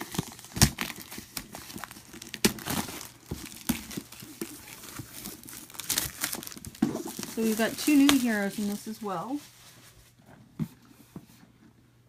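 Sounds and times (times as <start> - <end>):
plastic wrapping crinkling: 0.0 - 10.2
cardboard box being handled: 0.0 - 11.6.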